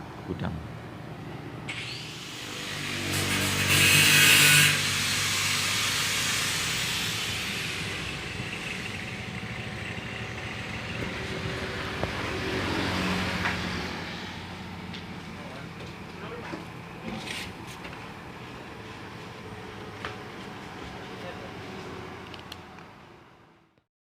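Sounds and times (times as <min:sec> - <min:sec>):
vehicle engine passing by: 0:00.0 - 0:23.4.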